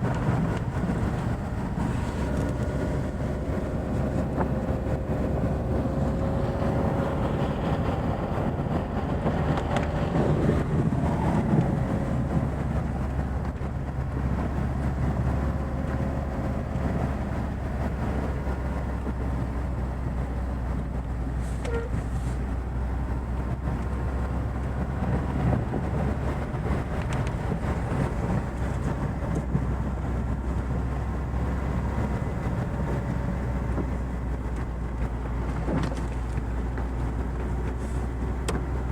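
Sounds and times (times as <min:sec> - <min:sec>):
car engine running: 0:00.0 - 0:38.9
tyres rumbling through snow: 0:00.0 - 0:38.9.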